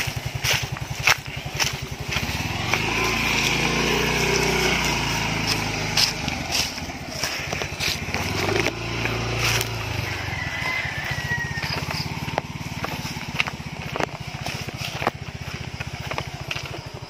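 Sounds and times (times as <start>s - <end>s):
small motorcycle engine: 0.0s - 17.0s.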